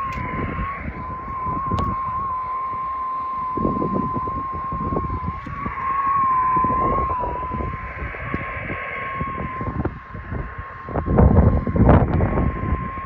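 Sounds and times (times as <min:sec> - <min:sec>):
radio whistle tone: 0:00.0 - 0:13.0
wind rumble on microphone: 0:00.0 - 0:13.0.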